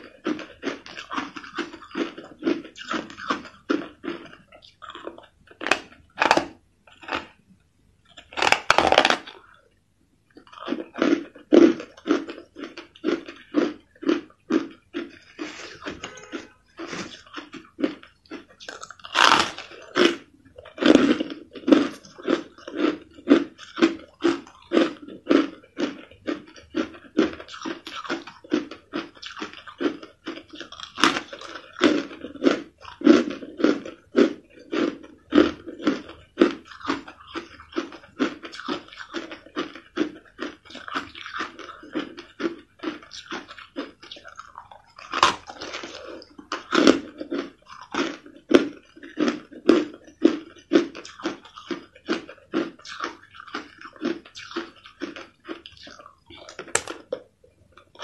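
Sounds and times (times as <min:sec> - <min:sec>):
crushed ice being chewed: 0:00.0 - 0:07.4, 0:08.1 - 0:09.7, 0:10.3 - 0:58.0.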